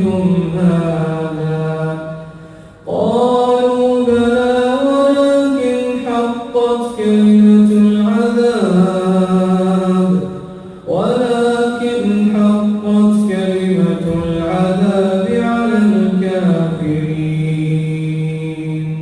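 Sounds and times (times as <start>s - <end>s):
man chanting melodic recitation: 0.0s - 19.0s.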